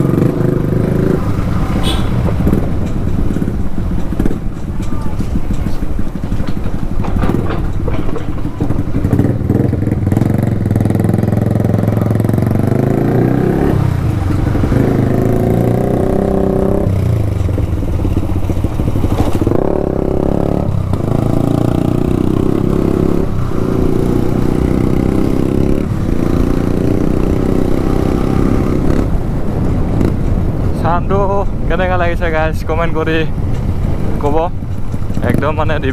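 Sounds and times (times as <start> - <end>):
motorcycle engine revving: 0.0 - 31.9, 32.8 - 35.9.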